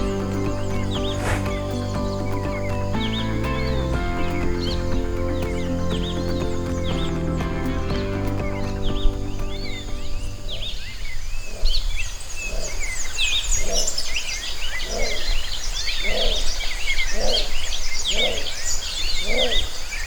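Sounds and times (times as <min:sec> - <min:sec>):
birds chirping and trilling: 0:00.0 - 0:20.0.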